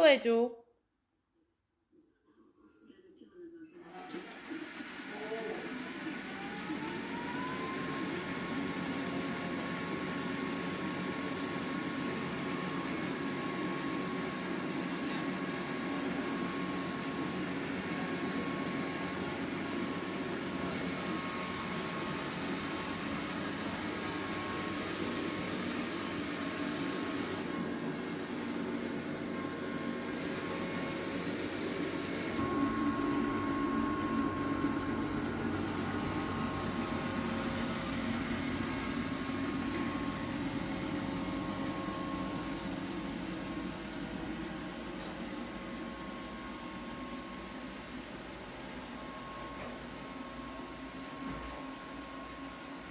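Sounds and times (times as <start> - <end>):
robot vacuum cleaner humming: 3.8 - 52.9.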